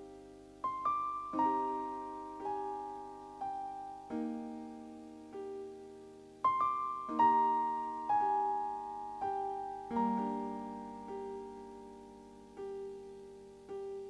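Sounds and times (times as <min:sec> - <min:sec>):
slow piano notes and chords: 0:00.0 - 0:14.0.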